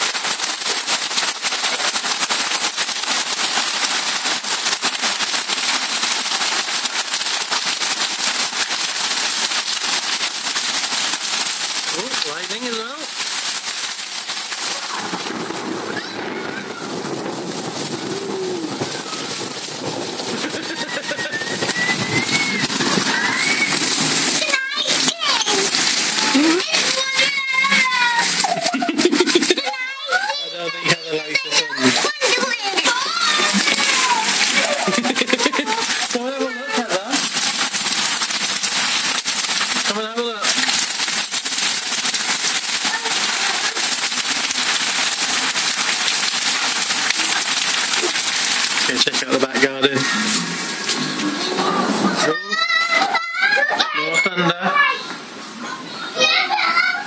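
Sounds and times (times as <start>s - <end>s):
hail pattering: 0.0s - 57.0s
heavy rain on car roof: 0.0s - 57.0s.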